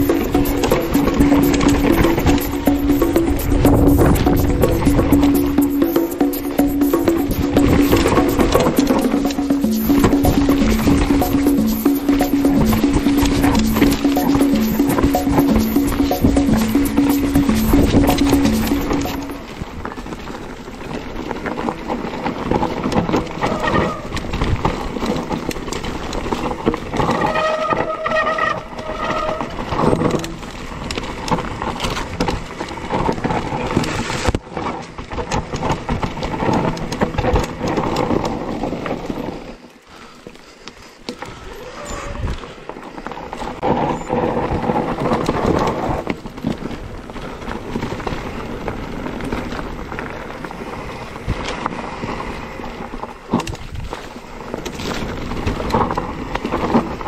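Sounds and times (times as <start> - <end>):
mountain bike rattling over rocks: 0.0 - 57.0.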